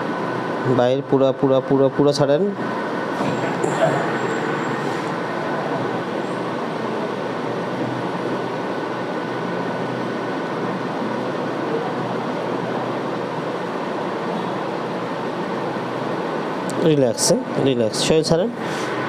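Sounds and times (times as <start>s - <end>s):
faint high whines: 0.0s - 15.6s
machine hiss and hum: 0.0s - 19.0s.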